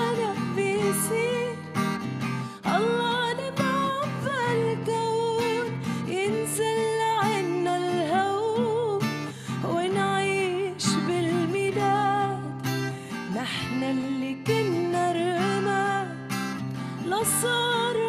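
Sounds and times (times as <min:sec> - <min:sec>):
woman singing a hymn: 0:00.0 - 0:01.6, 0:02.7 - 0:12.7, 0:13.3 - 0:16.2, 0:17.0 - 0:18.0
strummed acoustic guitar: 0:00.0 - 0:18.0.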